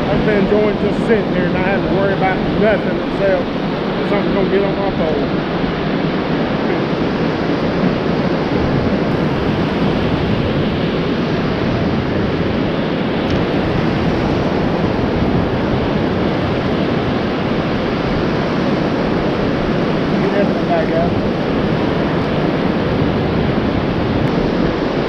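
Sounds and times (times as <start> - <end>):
surf rushing: 0.0 - 25.0
waves washing up sand: 0.0 - 25.0
wind rumbling on microphone: 0.0 - 25.0.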